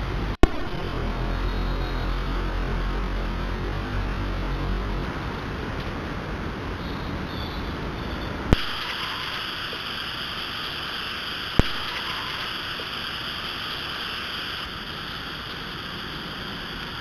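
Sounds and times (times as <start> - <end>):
trail camera background hiss: 0.0 - 17.0.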